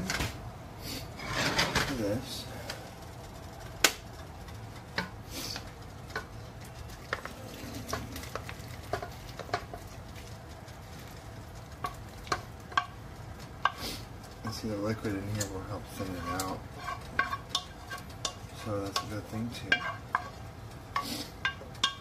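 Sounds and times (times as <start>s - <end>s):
wooden spoon scraping metal skillet: 1.0s - 10.0s, 11.8s - 22.0s.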